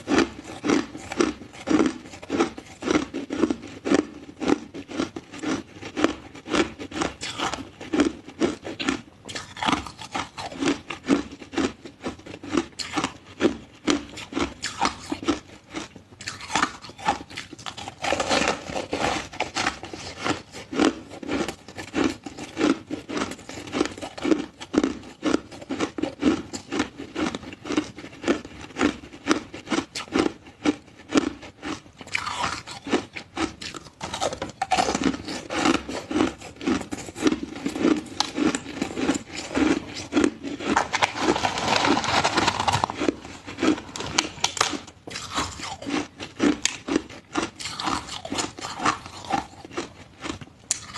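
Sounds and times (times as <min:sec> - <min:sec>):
ice being chewed: 0:00.0 - 0:50.9.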